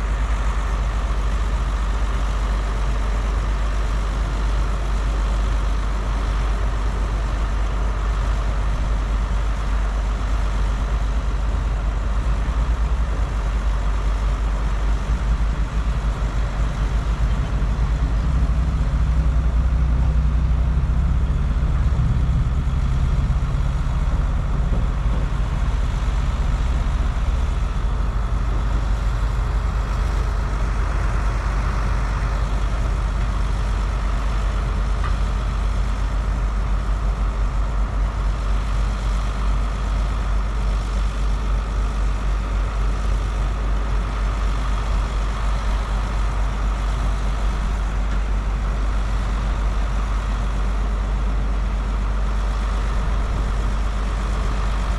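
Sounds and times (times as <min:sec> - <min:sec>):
excavator diesel engine drone: 0:00.0 - 0:54.9.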